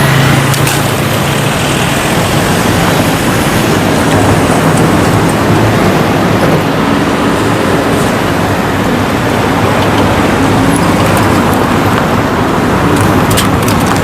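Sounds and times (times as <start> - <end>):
low engine hum: 0.0 - 14.0
road traffic noise: 0.0 - 14.0.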